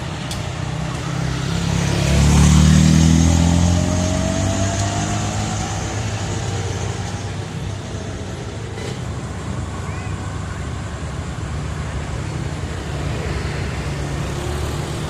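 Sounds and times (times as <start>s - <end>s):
engine passing by: 0.0s - 15.0s.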